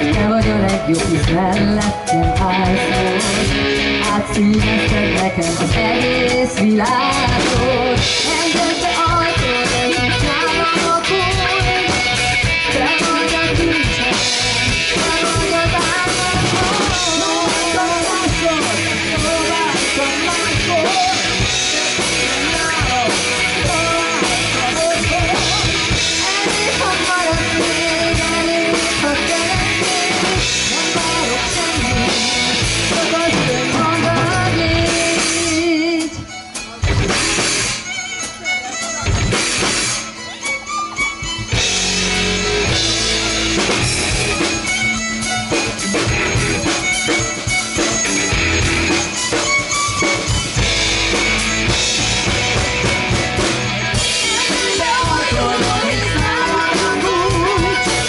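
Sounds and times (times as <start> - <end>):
live rock band playing: 0.0 - 58.0
wavering melodic lead line: 0.0 - 58.0.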